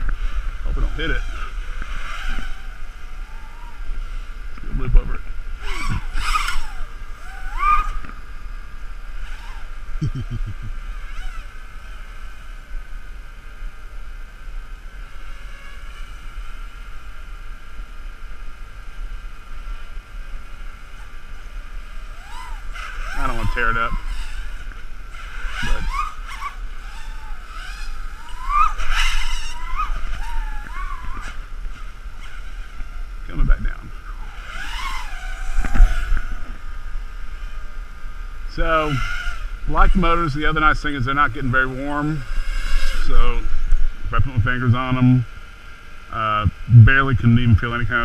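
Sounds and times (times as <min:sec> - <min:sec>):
drone motors whining: 0:00.0 - 0:48.0.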